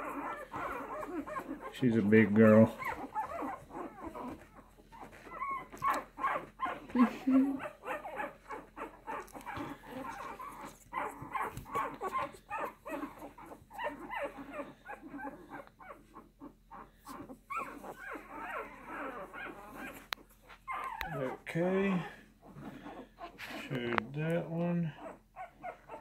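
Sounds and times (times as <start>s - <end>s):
puppies whimpering and squealing: 0.0s - 26.0s.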